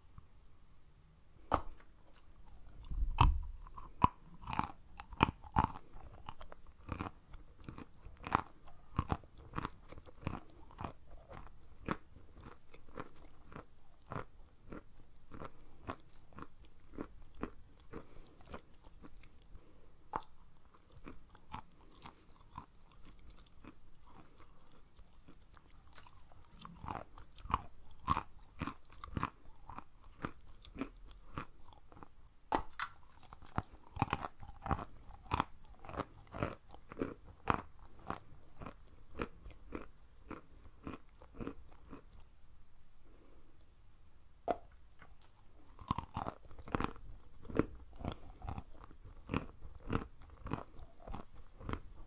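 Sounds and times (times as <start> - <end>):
chewing and crunching: 1.4 - 42.3, 44.9 - 52.0.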